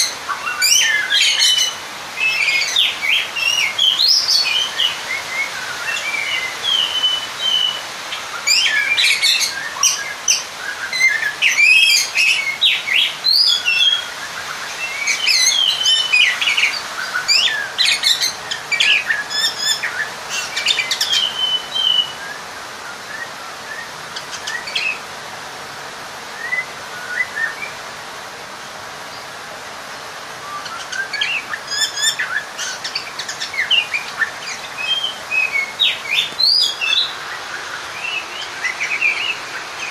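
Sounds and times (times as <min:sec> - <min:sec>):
bird whistling and chirping: 0:00.0 - 0:25.0, 0:26.4 - 0:27.8, 0:30.4 - 0:39.9
steady hiss: 0:00.0 - 0:39.9.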